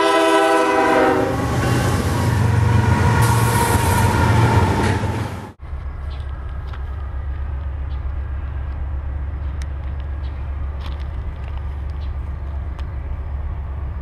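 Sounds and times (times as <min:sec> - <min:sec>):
diesel locomotives rumbling: 0:00.0 - 0:14.0.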